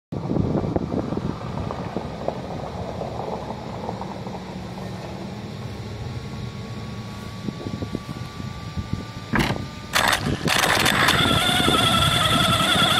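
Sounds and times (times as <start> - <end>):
faint high whine: 0.2 - 12.9
steady low hum: 0.2 - 12.9
wind buffeting microphone: 0.2 - 12.9.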